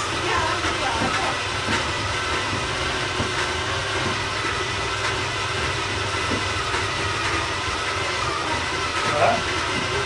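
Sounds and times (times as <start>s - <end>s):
electric mixer motor whirring: 0.0s - 10.0s.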